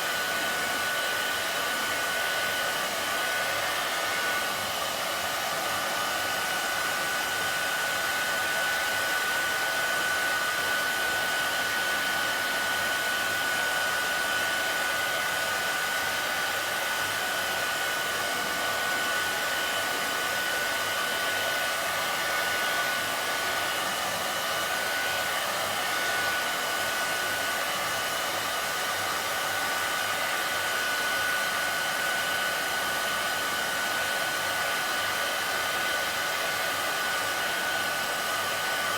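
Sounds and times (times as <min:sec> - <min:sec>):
hairdryer running: 0:00.0 - 0:38.9.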